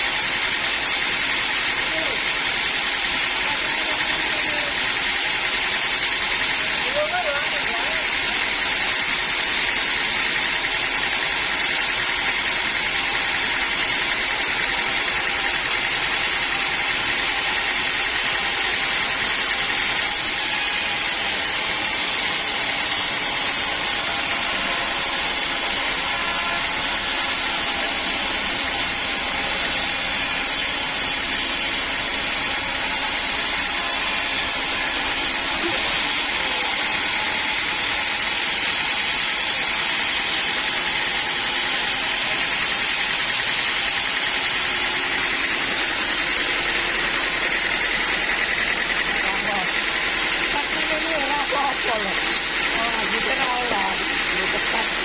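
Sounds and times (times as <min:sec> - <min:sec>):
sawmill machinery sawing log: 0:00.0 - 0:55.0.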